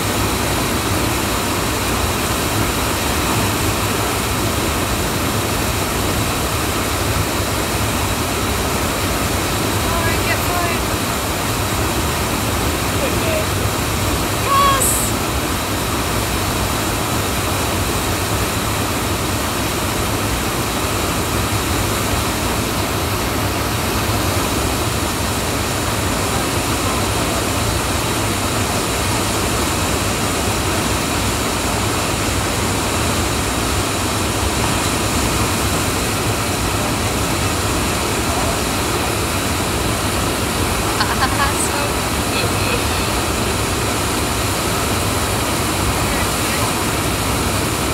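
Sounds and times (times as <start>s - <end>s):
whitewater rushing: 0.0s - 47.9s.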